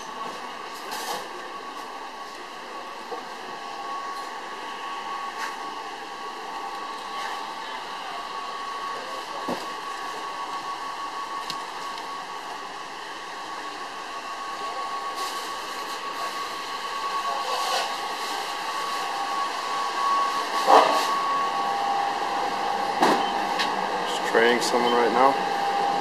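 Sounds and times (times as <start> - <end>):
kitchen fans humming: 0.0 - 26.0.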